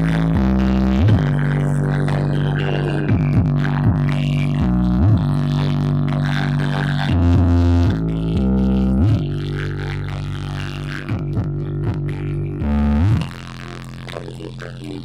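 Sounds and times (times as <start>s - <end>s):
deep droning bass with pitch swoops: 0.0s - 15.0s
electronic dance music: 0.0s - 15.0s.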